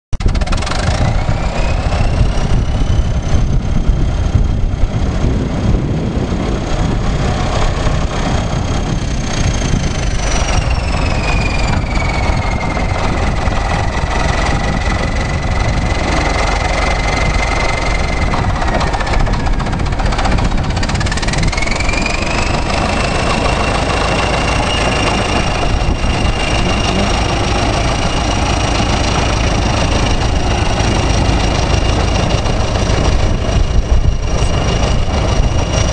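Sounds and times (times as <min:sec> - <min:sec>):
diesel engine heavy rumble: 0:00.2 - 0:35.9
high whine: 0:00.2 - 0:35.9.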